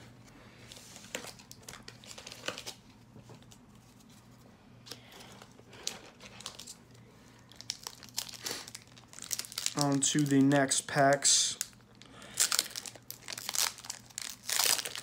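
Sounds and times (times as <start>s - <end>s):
low room hum: 0.0s - 15.0s
cards and foil wrappers rustling: 0.7s - 4.1s, 4.9s - 15.0s.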